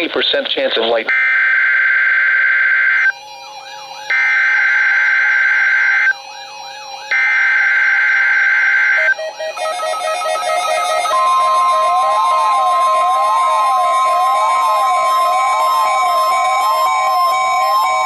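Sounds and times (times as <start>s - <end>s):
harsh electronic warble tones: 2.4s - 18.0s.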